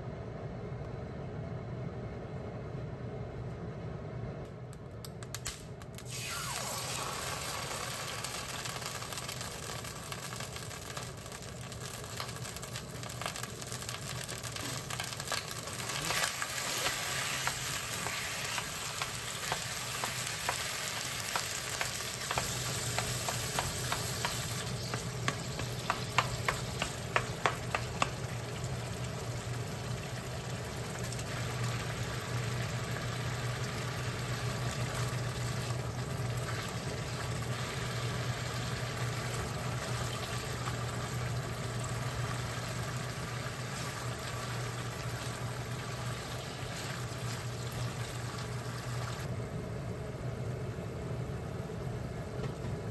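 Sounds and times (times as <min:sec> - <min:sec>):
steady low hum: 0:00.0 - 0:52.9
tofu sizzling in oil: 0:06.0 - 0:49.3.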